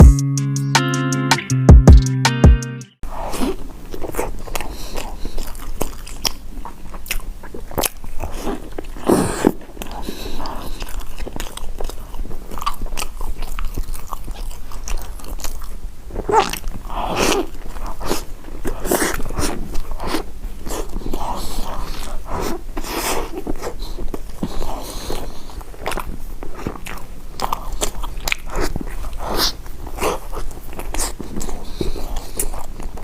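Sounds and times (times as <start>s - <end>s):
person chewing food: 3.1s - 33.0s.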